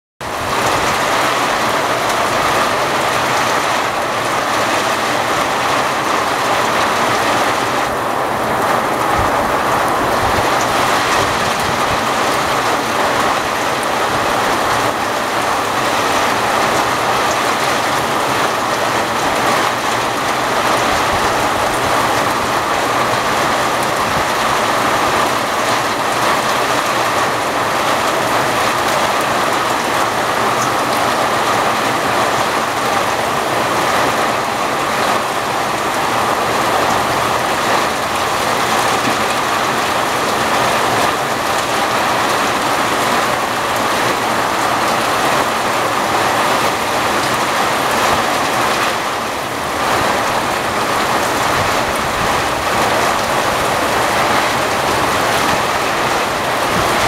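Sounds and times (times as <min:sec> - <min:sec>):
heavy rain: 0:00.2 - 0:57.0.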